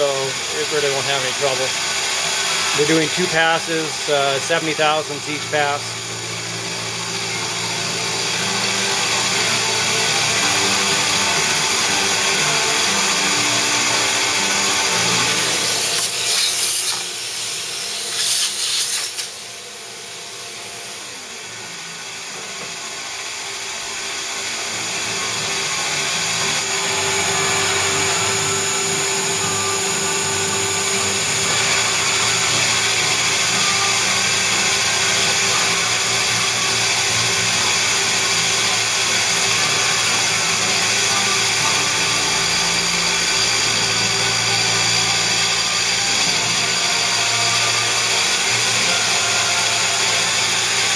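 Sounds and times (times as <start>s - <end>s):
milling machine cutting metal: 0.0s - 50.9s
shop vacuum running: 0.0s - 50.9s.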